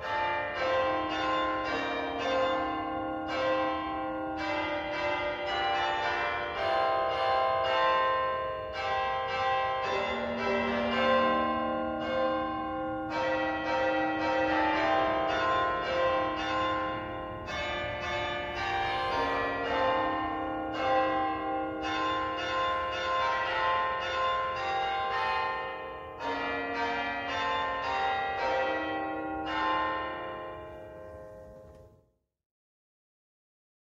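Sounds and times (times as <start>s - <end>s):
church bells ringing: 0.0s - 32.1s.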